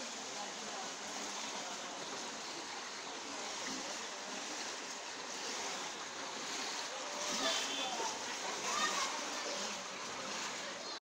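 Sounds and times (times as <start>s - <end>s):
water flowing through gate gaps: 0.0s - 11.0s.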